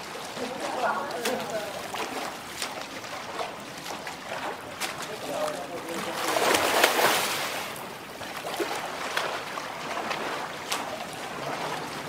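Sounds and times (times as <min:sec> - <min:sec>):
arms slapping water: 0:00.0 - 0:12.0
swimmer splashing in pool: 0:00.0 - 0:12.0.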